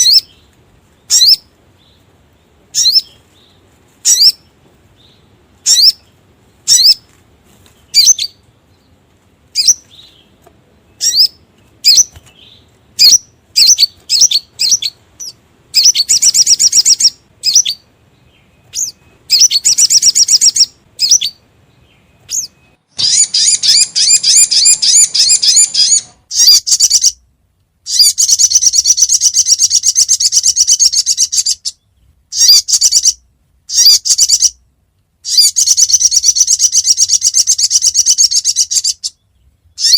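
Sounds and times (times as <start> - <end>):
bird chirps and trills: 0.0 - 27.2, 27.9 - 34.6, 35.2 - 39.9.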